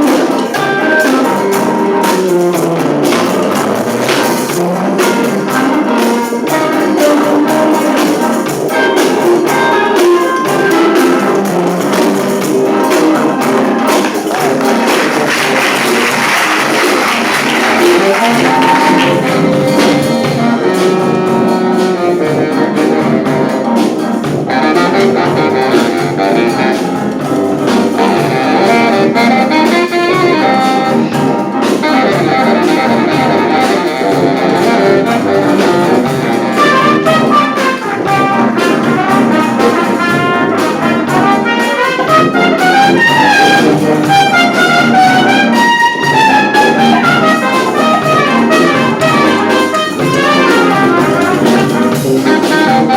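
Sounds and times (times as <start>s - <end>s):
high trumpet runs: 0.0s - 52.9s
wind band playing: 0.0s - 52.9s.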